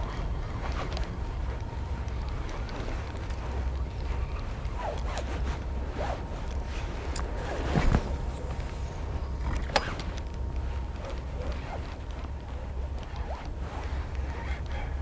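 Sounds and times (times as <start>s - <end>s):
loud rustle: 0.0s - 15.0s.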